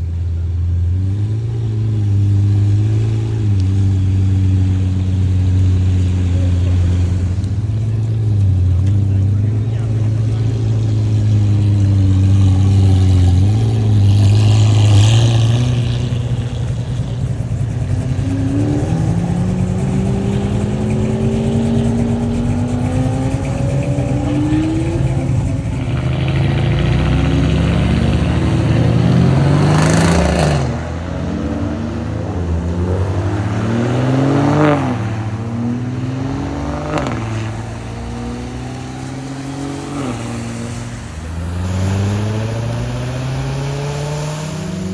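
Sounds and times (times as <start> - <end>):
car engine accelerating through gears: 0.0 - 44.9
low engine drone: 1.6 - 44.9.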